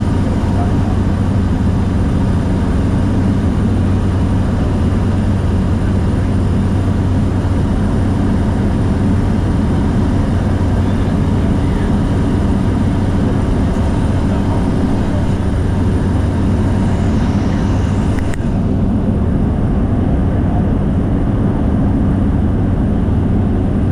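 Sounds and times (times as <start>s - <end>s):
propeller aeroplane engine drone: 0.0s - 23.9s.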